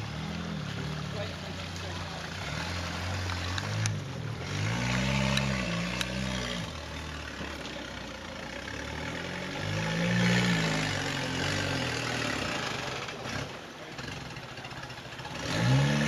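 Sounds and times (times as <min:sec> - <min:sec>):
buggy engine revving: 0:00.0 - 0:16.0.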